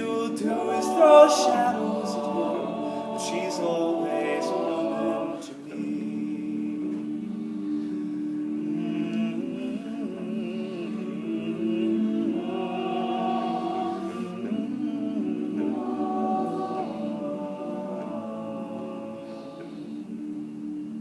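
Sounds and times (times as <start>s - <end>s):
male choir singing close harmony: 0.0s - 21.0s.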